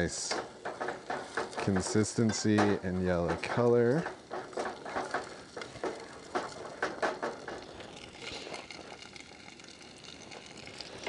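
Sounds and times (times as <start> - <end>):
eggs sizzling: 0.0 - 11.0
spatula scraping pot: 0.0 - 11.0.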